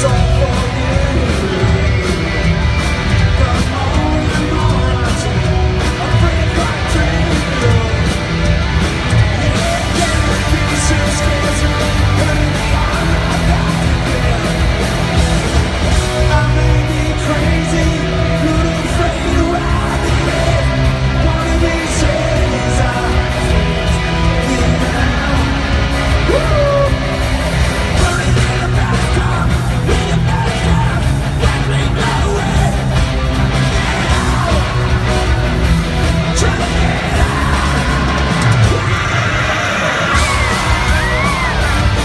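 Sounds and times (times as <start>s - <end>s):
rock band playing live: 0.0s - 42.0s.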